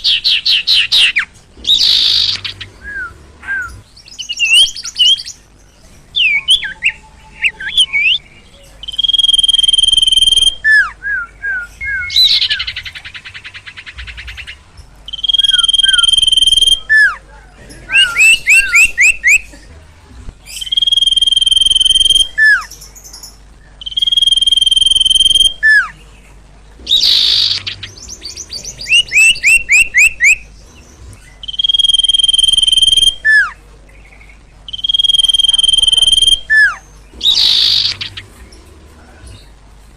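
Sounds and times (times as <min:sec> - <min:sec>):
bird whistling and chirping: 0:00.0 - 0:05.4, 0:06.2 - 0:17.2, 0:17.8 - 0:19.5, 0:20.5 - 0:26.0, 0:26.8 - 0:30.5, 0:31.2 - 0:33.6, 0:34.7 - 0:38.2.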